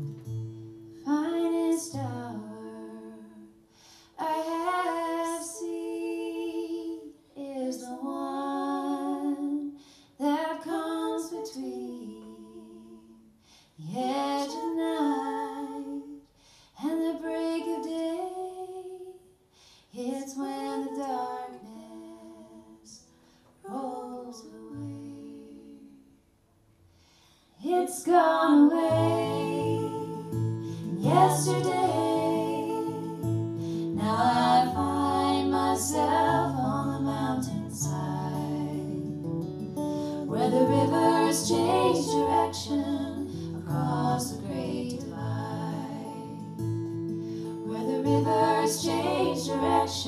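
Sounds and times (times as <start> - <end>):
women singing wordlessly: 1.0 - 26.2, 27.6 - 39.2, 39.9 - 46.7, 47.4 - 50.0.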